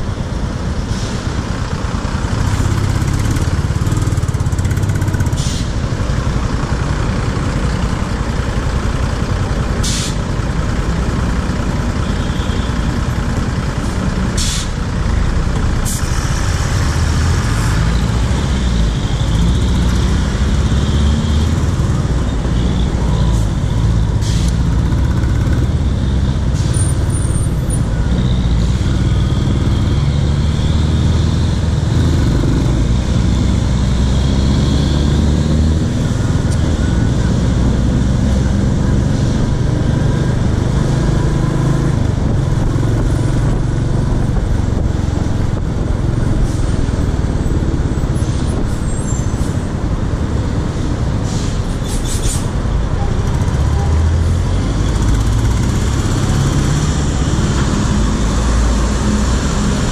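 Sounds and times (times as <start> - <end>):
city traffic: 0.0 - 59.9.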